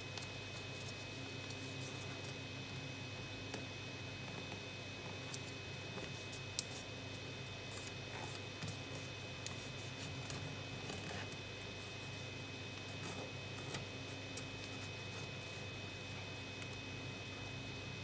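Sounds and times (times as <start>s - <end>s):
faint hum and hiss: 0.0s - 18.0s.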